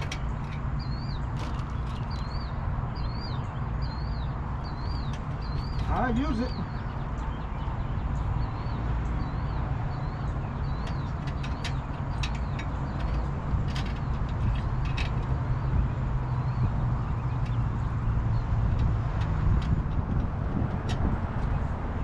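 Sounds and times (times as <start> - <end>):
small bird chirping: 0.0 - 18.8.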